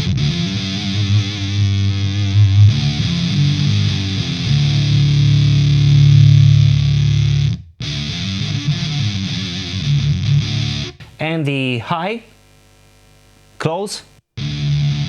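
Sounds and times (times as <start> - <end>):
heavily distorted electric guitar: 0.0 - 13.0, 14.0 - 15.0.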